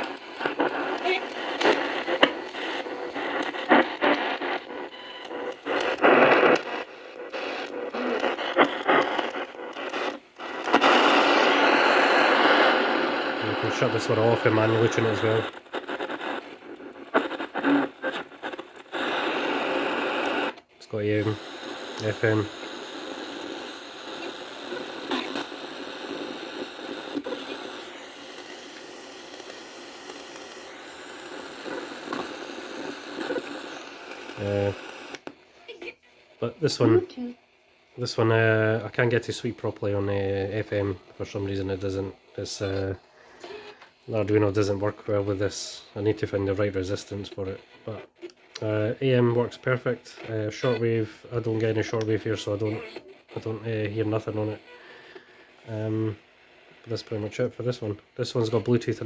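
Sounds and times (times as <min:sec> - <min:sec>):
radio scanning static bursts: 0:00.0 - 0:59.0.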